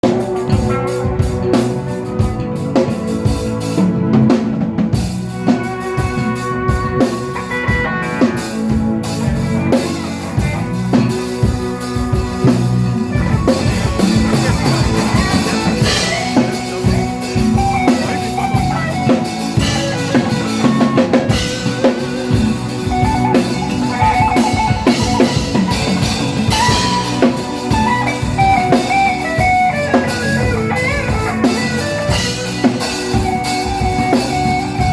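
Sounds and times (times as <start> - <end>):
band playing music: 0.0 - 34.9
drum kit hits: 0.0 - 34.9.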